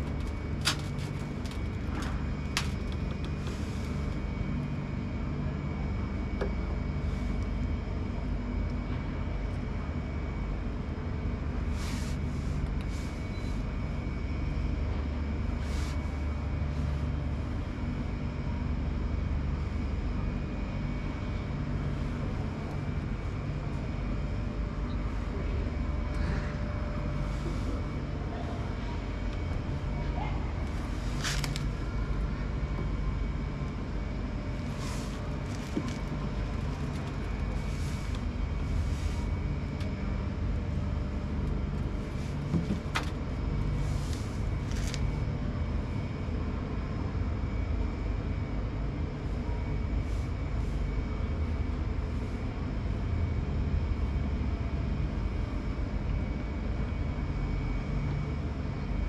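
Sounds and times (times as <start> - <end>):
washing machine rumbling: 0.0 - 59.0.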